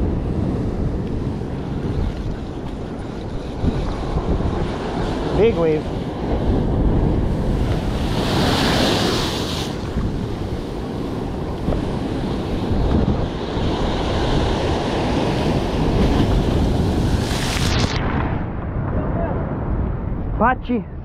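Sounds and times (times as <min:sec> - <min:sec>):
ocean waves breaking: 0:00.0 - 0:18.9
wind buffeting microphone: 0:00.0 - 0:21.0.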